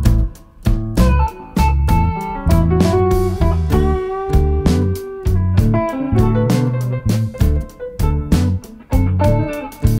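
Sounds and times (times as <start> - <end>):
guitar-led instrumental music: 0.0 - 9.9.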